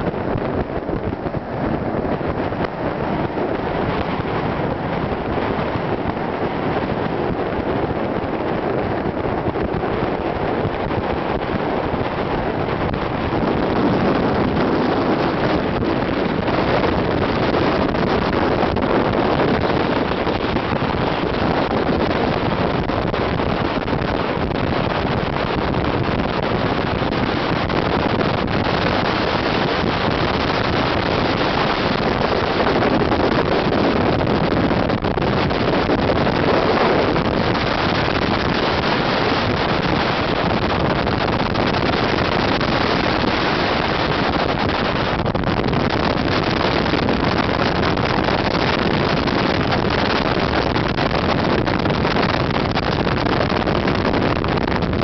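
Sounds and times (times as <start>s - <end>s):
wind rushing past car: 0.0s - 55.0s.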